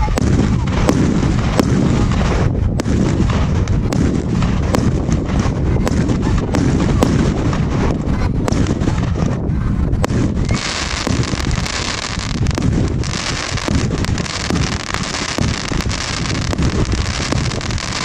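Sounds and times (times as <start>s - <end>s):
firework bangs and cracks: 0.0s - 18.0s
low rumble: 0.0s - 18.0s.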